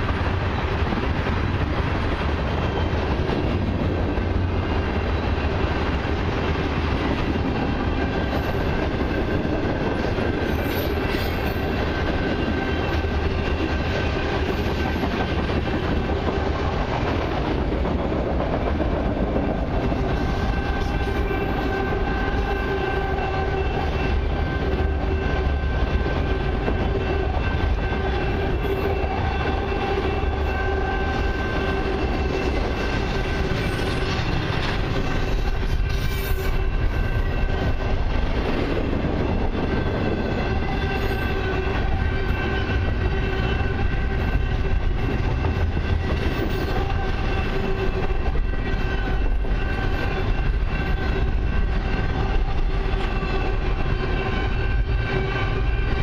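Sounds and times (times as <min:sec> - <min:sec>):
constant whine: 0:00.0 - 0:56.0
train wheels rumbling on rails: 0:00.0 - 0:56.0.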